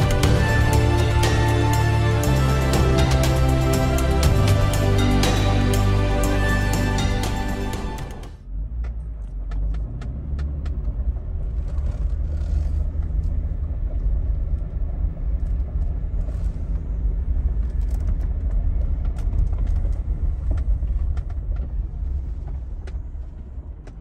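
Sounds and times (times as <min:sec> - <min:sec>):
engine and tyres rumbling: 0:00.0 - 0:24.0.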